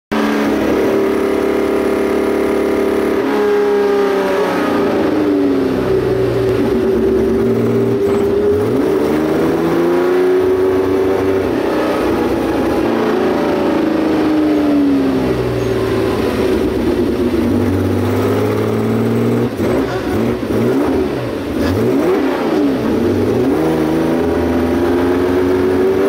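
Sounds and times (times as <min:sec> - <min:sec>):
race car engine revving: 0:00.1 - 0:26.0.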